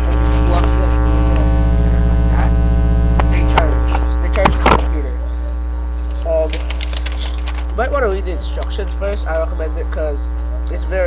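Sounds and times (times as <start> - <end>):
loud electrical mains hum: 0.0 - 11.0.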